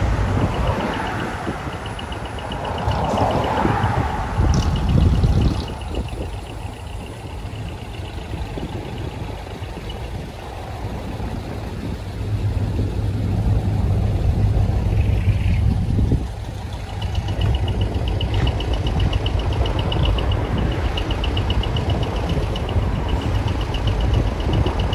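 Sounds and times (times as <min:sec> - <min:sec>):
truck engines driving past: 0:00.0 - 0:24.9.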